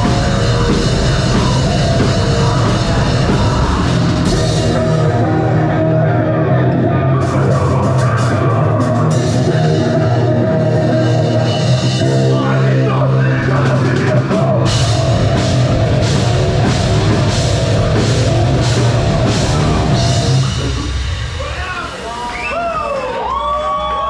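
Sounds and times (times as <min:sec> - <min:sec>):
live metal band playing: 0:00.0 - 0:23.3.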